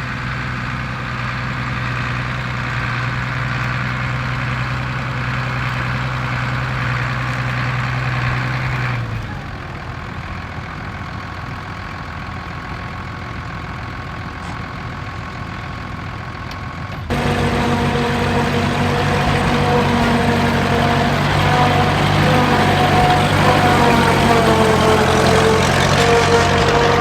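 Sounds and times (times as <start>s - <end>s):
heavy vehicle engines running: 0.0s - 27.0s.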